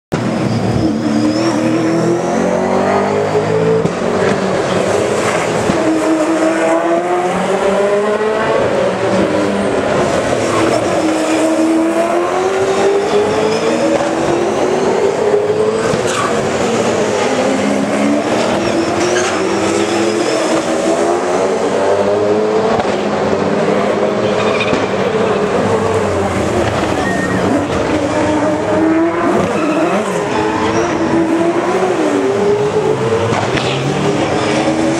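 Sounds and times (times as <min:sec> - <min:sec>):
race car engines at full throttle: 0:00.1 - 0:34.9.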